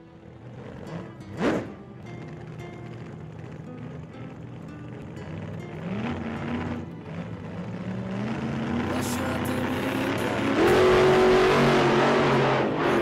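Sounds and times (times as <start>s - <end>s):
music playing: 0.8s - 13.0s.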